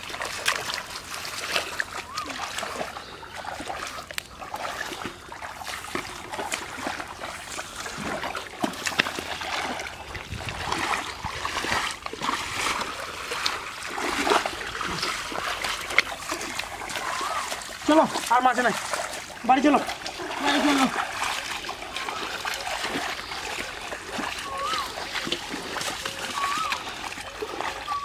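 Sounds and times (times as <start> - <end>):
muddy water splashing: 0.0 - 28.0.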